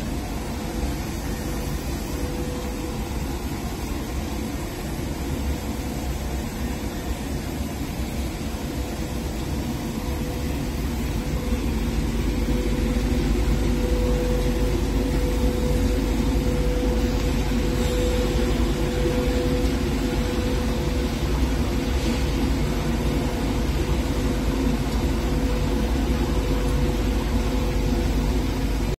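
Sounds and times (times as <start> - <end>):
machine hum with steady tone: 0.0 - 29.0.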